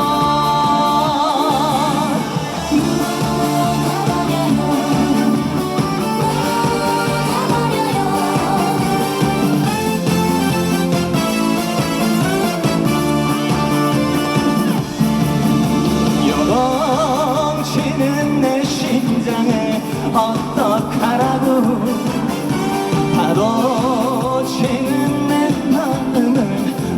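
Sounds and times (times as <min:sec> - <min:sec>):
band accompaniment: 0:00.0 - 0:26.9
man singing with vibrato: 0:00.0 - 0:26.9.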